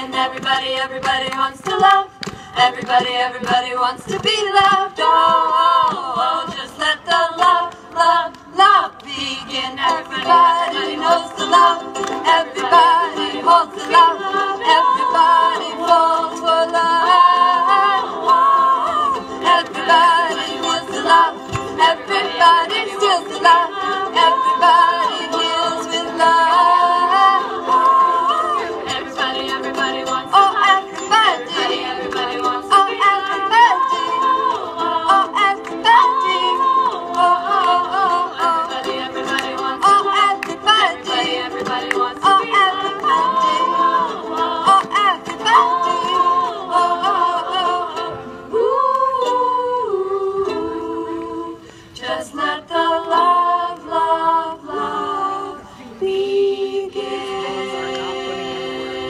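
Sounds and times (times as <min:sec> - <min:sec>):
group singing in unison: 0:00.0 - 0:59.0
ukulele ensemble strumming: 0:00.0 - 0:59.0.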